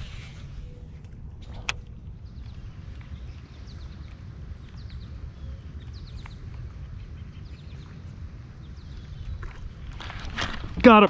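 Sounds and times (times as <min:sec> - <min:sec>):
small birds chirping: 0:00.0 - 0:09.9
low steady rumble: 0:00.0 - 0:11.0.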